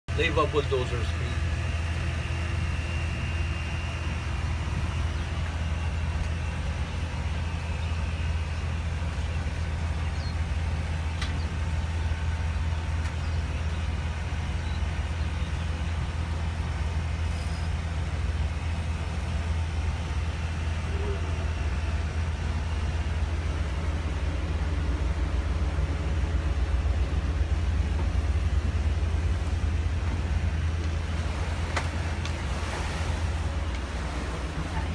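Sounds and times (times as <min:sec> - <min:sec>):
boat engine droning: 0:00.1 - 0:34.9
motor cruiser passing: 0:00.1 - 0:34.9.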